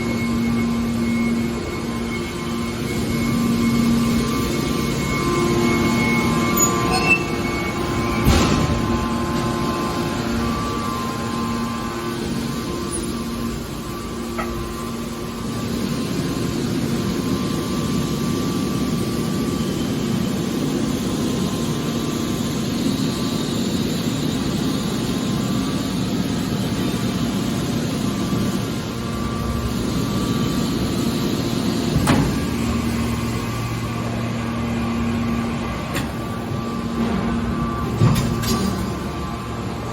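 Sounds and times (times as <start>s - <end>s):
baler mechanical noise: 0.0s - 39.9s.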